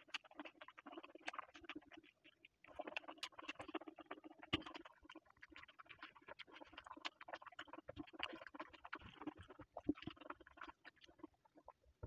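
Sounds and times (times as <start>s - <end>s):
chewing with wet mouth smacks: 0.0s - 11.8s.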